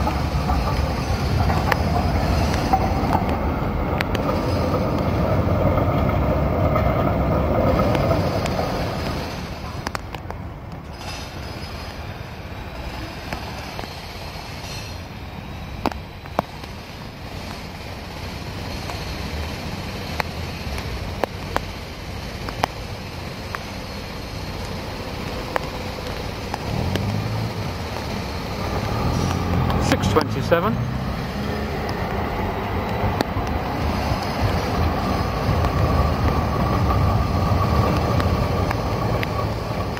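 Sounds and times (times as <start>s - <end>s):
tram rumble approaching: 0.0s - 39.9s
trams running on rails: 0.0s - 39.9s.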